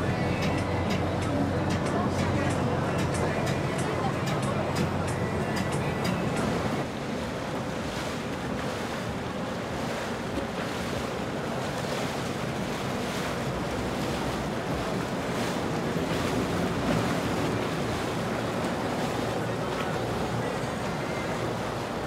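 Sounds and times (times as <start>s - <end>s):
boat engines running low: 0.0s - 22.0s
rushing water: 0.0s - 22.0s.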